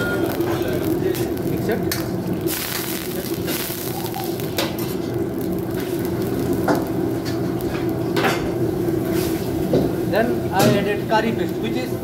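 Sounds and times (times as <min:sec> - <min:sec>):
stock boiling in wok: 0:00.0 - 0:12.0.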